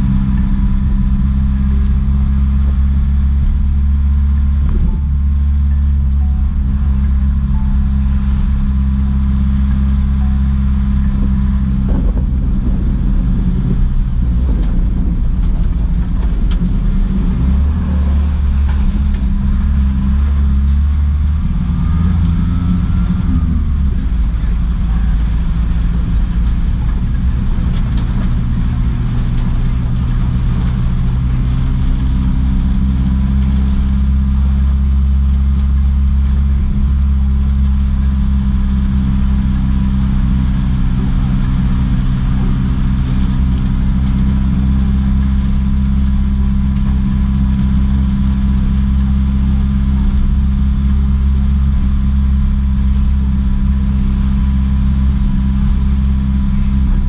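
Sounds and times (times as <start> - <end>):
faint steady whine: 0.0 - 57.0
truck diesel engine droning: 0.0 - 57.0.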